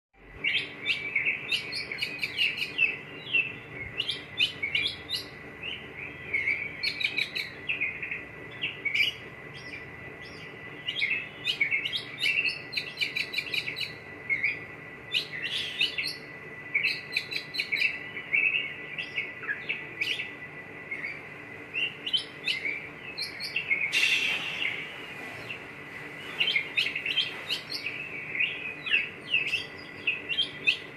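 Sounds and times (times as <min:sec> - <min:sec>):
bird singing: 0:00.2 - 0:30.9.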